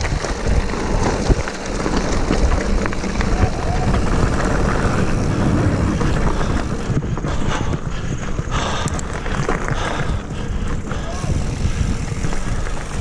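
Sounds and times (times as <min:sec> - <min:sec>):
bike knocking over bumps: 0:00.0 - 0:13.0
mountain bike rumbling and rattling: 0:00.0 - 0:13.0
wind buffeting microphone: 0:00.0 - 0:13.0.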